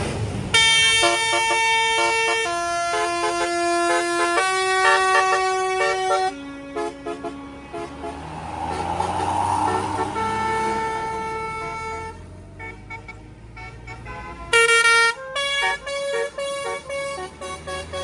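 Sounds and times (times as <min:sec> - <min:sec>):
bus musical horn melody: 0:00.5 - 0:08.6, 0:10.0 - 0:18.0.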